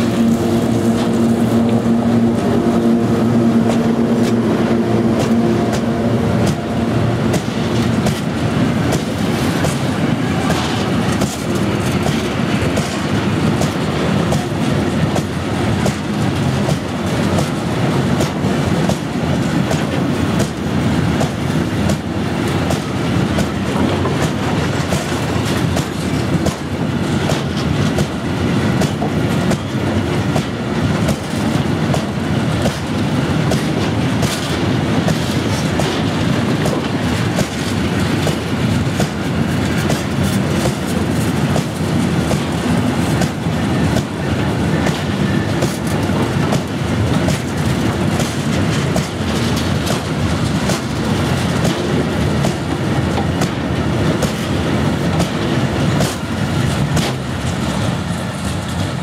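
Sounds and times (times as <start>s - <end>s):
train wheels rumbling on rails: 0.0s - 59.0s
wheels clacking over rail joints: 0.0s - 59.0s.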